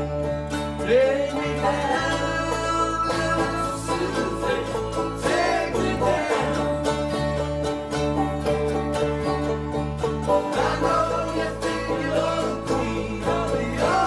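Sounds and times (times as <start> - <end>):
acoustic guitar: 0.0 - 14.0
banjo: 0.0 - 14.0
mandolin: 0.0 - 14.0.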